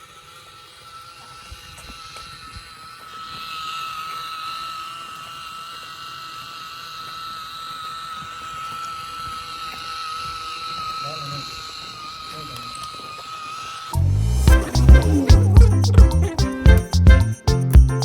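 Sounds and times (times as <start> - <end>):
small electric motor whining: 0.0 - 17.9.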